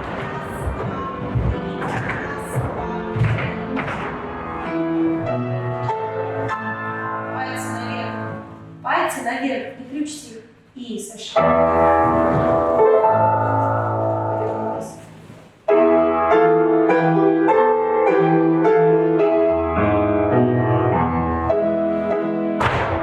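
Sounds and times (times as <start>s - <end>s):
piano playing chords: 0.0s - 8.8s, 11.4s - 15.0s, 15.6s - 23.0s.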